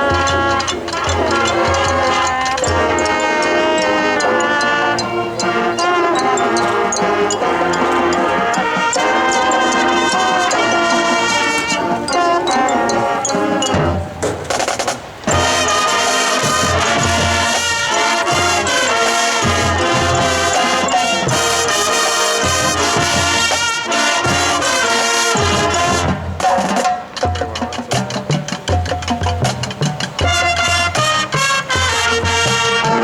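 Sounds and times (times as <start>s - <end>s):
brass playing loud chords: 0.0s - 14.2s, 15.2s - 26.5s, 30.2s - 33.0s
marching drums: 0.0s - 33.0s.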